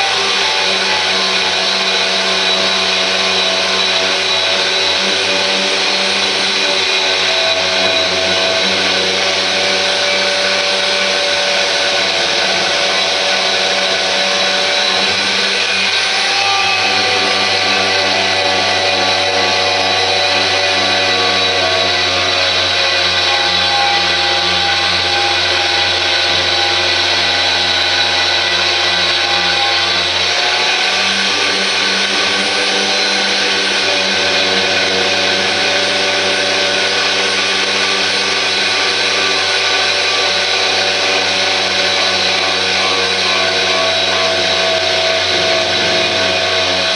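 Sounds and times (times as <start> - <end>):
power tool motor whine: 0.0 - 46.9.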